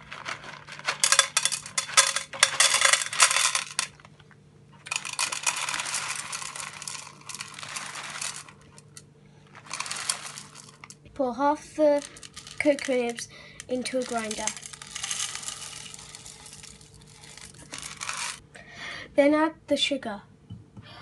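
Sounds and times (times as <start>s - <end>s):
cocoa nibs rattling in a container: 0.0s - 4.1s, 4.8s - 11.0s, 11.7s - 18.4s.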